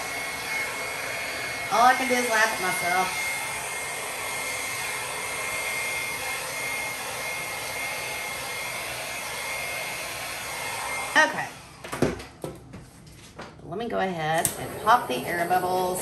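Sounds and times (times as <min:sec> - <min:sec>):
hair dryer blowing: 0:00.0 - 0:12.4, 0:14.3 - 0:16.0.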